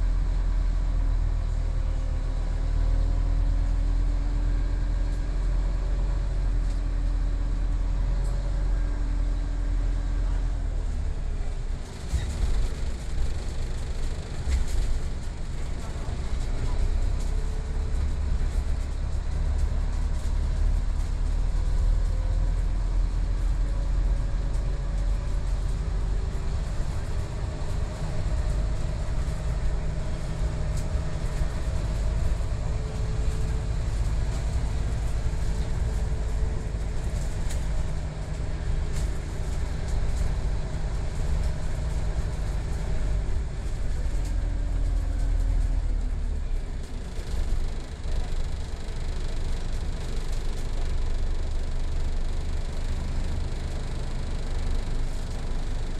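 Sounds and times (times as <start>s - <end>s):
bus engine rumble: 0.0s - 55.9s.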